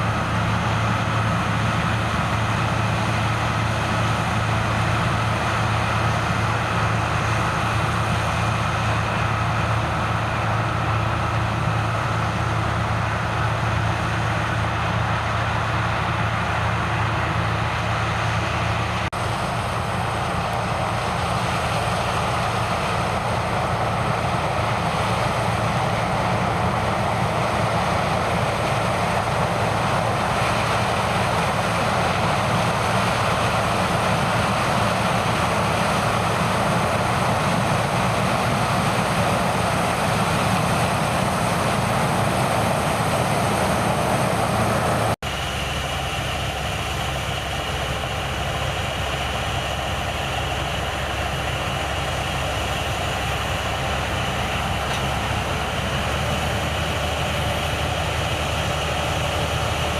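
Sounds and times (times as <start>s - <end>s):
deep engine hum: 0.0s - 59.9s
farm machinery engine drone: 0.0s - 59.9s.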